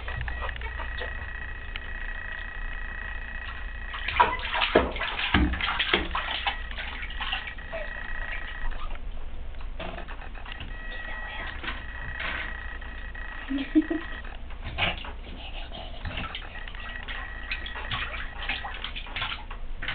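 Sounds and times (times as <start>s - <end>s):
bathwater splashing: 0.0s - 19.9s.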